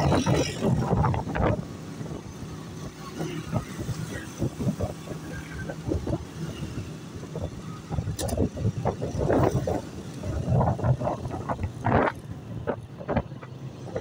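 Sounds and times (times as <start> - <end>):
passing street traffic: 0.0 - 14.0
wind buffeting microphone: 0.0 - 14.0.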